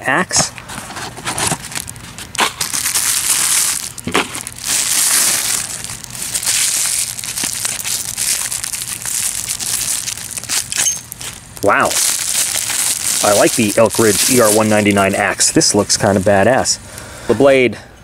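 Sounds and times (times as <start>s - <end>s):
plastic packaging crinkling: 0.6s - 17.1s.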